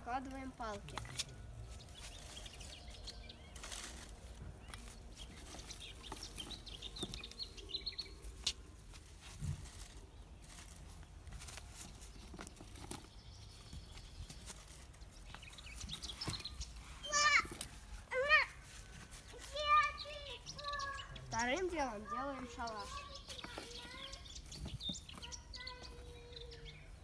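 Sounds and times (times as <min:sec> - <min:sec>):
small bird chirping: 0:00.1 - 0:27.0.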